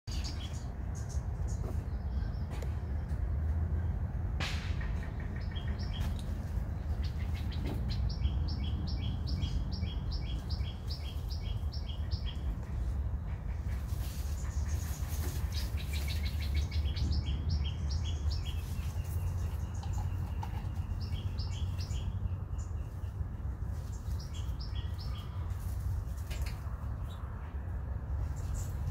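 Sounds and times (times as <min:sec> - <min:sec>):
bird chirping: 0:00.1 - 0:03.2, 0:04.9 - 0:27.3.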